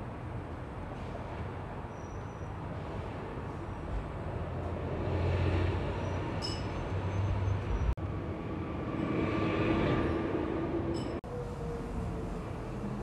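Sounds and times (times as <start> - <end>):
bus engine drone: 0.0 - 13.0
truck whine: 0.0 - 13.0.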